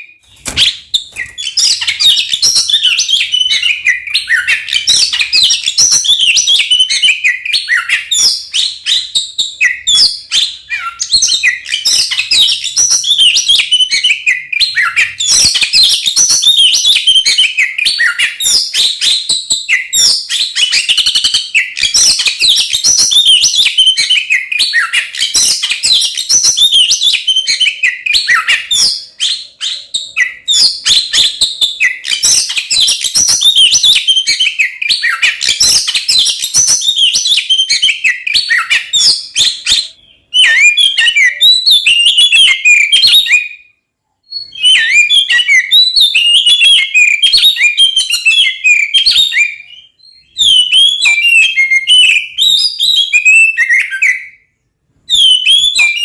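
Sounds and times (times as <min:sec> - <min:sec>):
magpie-robin singing fast: 0:00.0 - 0:43.6, 0:44.3 - 0:54.4, 0:55.1 - 0:56.0.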